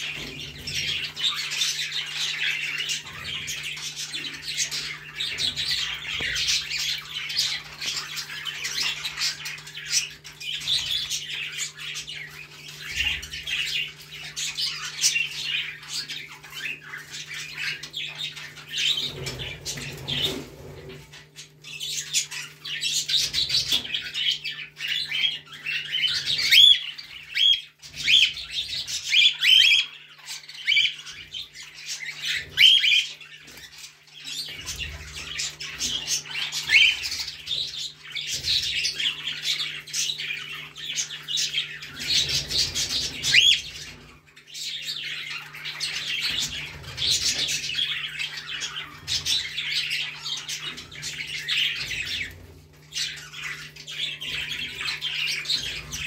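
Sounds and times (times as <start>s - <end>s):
cockatiels chirping and squawking: 0.0s - 56.0s.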